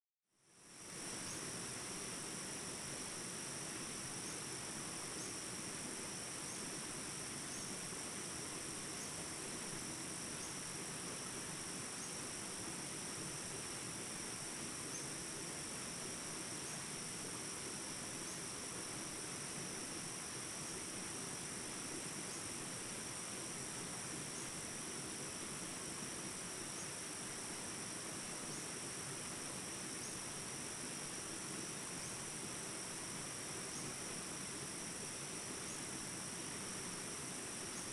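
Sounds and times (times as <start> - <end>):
insect chorus drone: 0.3 - 37.9.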